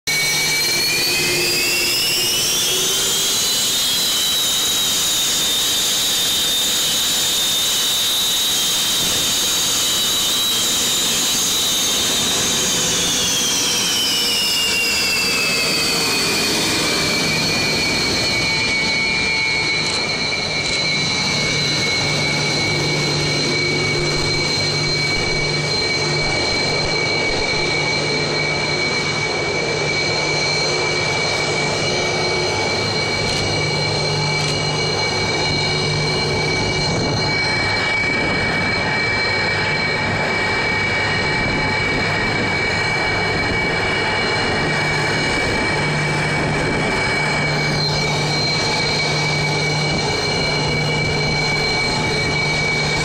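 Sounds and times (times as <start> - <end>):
jet engines whining: 0.0 - 53.0
constant rushing noise: 0.1 - 53.0.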